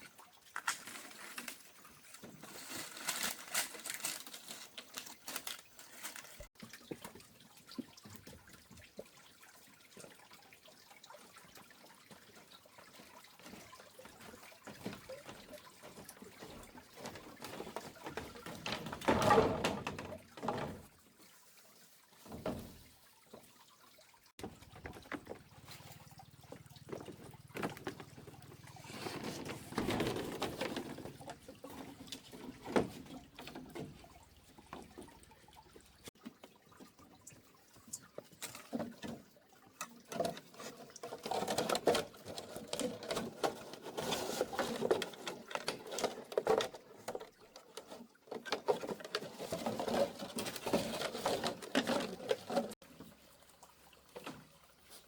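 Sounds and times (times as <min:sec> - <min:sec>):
water splashing and trickling: 0:00.0 - 0:55.0.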